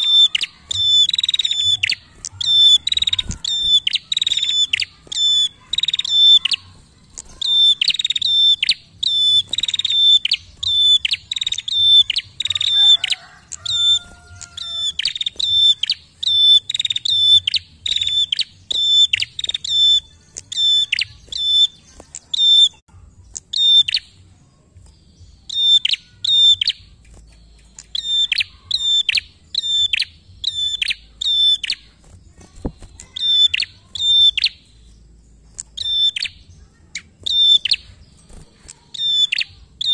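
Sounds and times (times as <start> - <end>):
songbird calling loudly: 0.0 - 22.8, 25.4 - 27.0, 27.6 - 32.0, 32.6 - 34.9, 35.5 - 38.0, 38.7 - 39.9.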